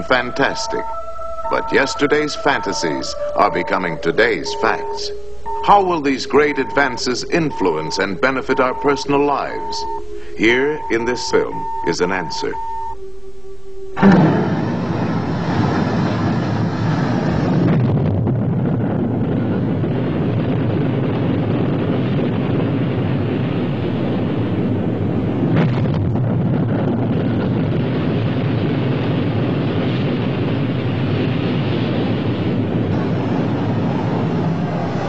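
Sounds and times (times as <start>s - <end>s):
rocket engines roaring: 0.0s - 13.0s, 14.0s - 35.0s.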